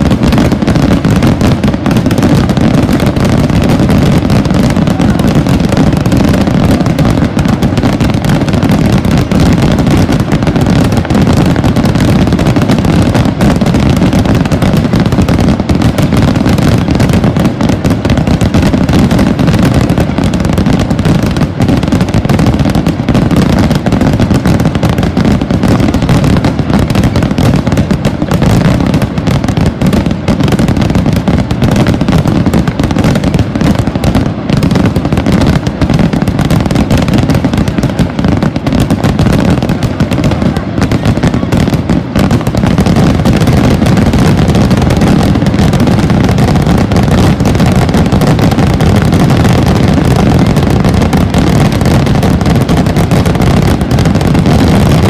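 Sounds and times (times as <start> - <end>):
firework rockets bursting: 0.0 - 55.0.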